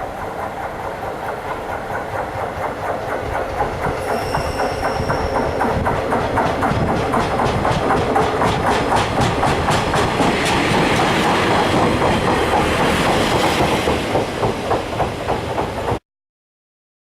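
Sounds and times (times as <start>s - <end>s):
train wheels clattering over rail joints: 0.0s - 16.0s.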